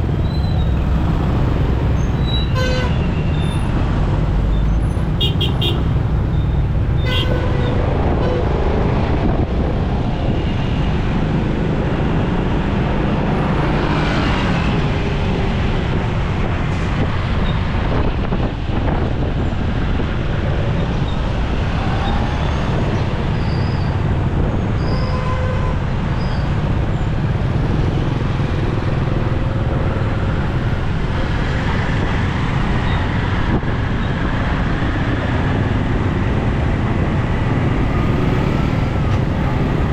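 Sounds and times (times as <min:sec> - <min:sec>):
road noise: 0:00.0 - 0:39.9
surrounding traffic: 0:00.0 - 0:39.9.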